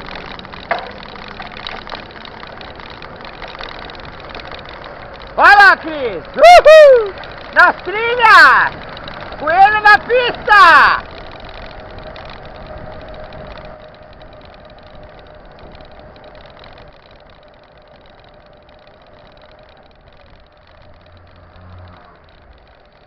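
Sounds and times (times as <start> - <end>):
wind noise: 0.0 - 20.9
bike tyres on dirt trail: 0.0 - 23.0.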